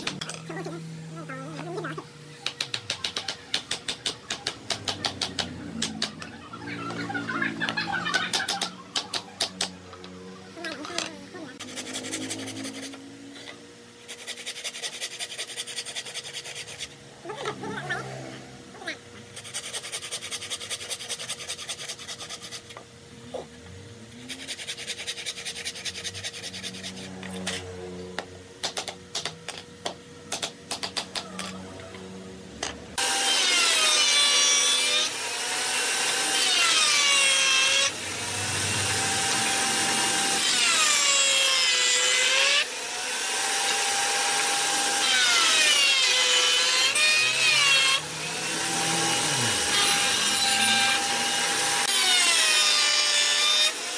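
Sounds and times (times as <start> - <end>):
router whining through wood: 0.0 - 53.9
handsaw cutting wood: 2.4 - 9.8, 10.9 - 22.9, 24.1 - 29.3, 33.0 - 53.9.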